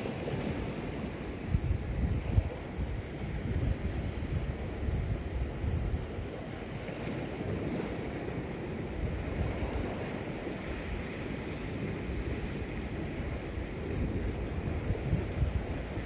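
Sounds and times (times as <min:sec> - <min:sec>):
sea surf on rocky shore: 0:00.0 - 0:16.0
wind buffeting microphone: 0:00.0 - 0:16.0.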